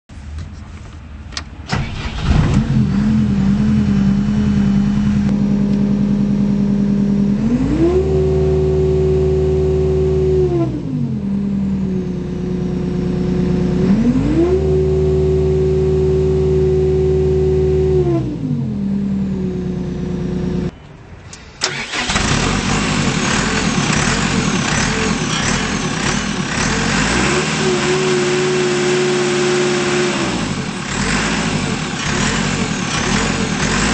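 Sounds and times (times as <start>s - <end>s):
diesel engine starting and revving: 1.4s - 20.7s, 21.3s - 33.9s.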